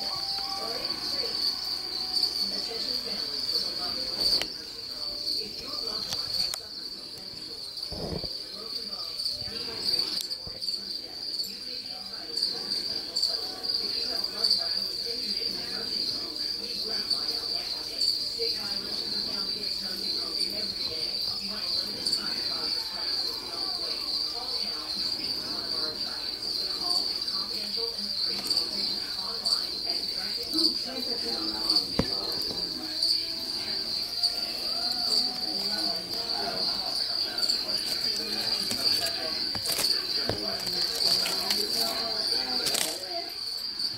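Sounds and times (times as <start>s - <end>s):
cricket trilling: 0.0s - 43.9s.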